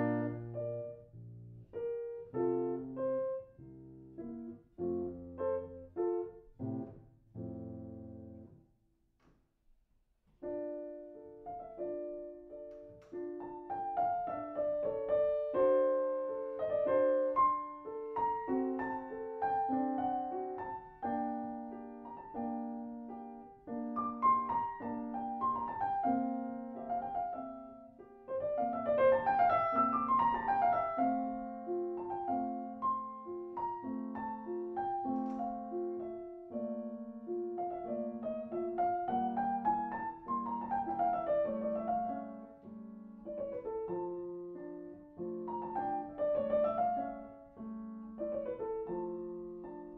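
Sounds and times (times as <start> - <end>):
grand piano classical piece: 0.0 - 49.9.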